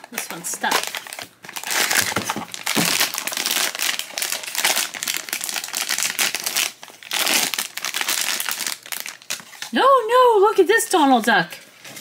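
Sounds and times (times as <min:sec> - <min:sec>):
foil bag crinkling: 0:00.0 - 0:09.8.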